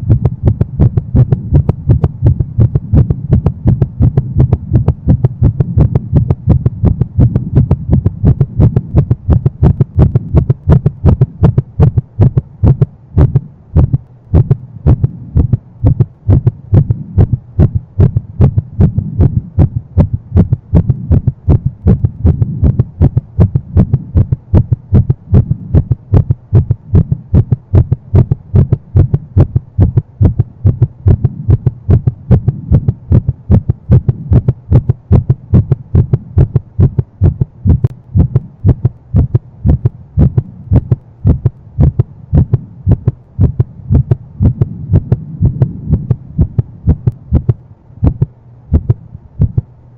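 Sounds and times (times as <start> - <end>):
rapid heartbeat thumps: 0.0 - 49.7.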